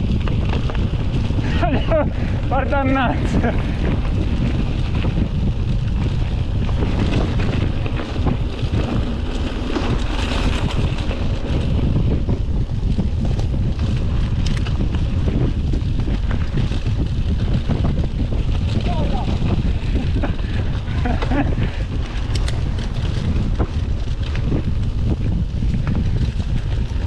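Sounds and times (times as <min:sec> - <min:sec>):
bike rattling clicks: 0:00.0 - 0:27.0
tyres rumbling on trail: 0:00.0 - 0:27.0
wind buffeting microphone: 0:00.0 - 0:27.0.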